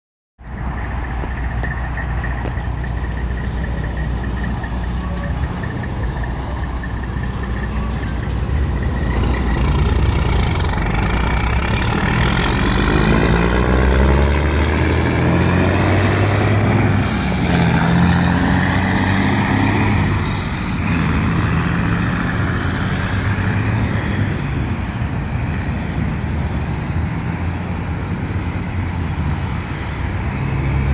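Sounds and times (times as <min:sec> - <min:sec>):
diesel truck engine shifting gears: 0:00.4 - 0:30.9.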